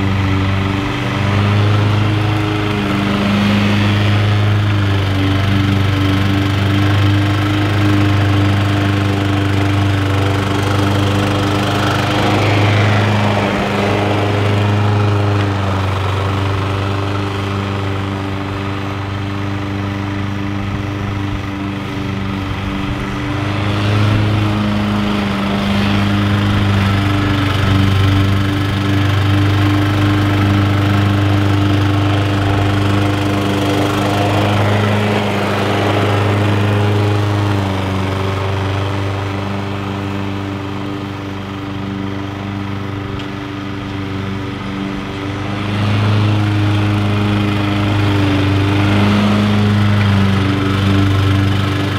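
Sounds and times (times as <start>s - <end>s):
lawn mower engine running: 0.0s - 51.9s.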